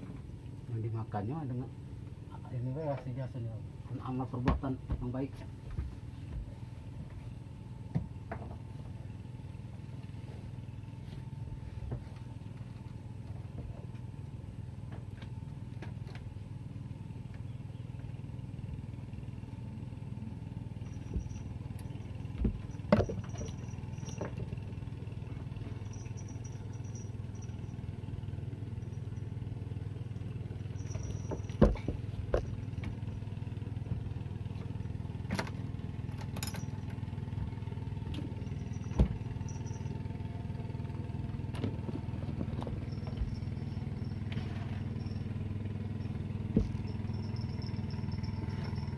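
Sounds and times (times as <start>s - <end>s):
small boat engine humming: 0.0s - 48.9s.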